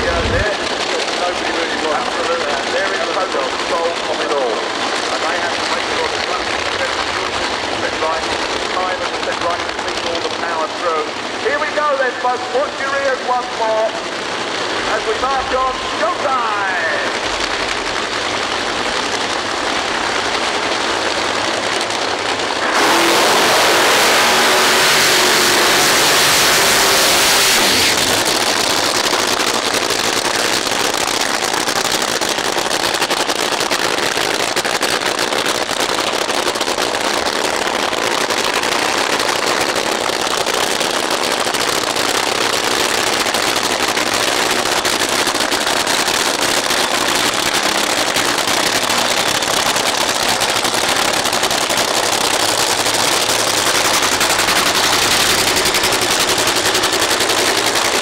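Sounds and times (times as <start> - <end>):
crackling engine noise: 0.0 - 58.0
drag racing engine roar: 0.0 - 58.0.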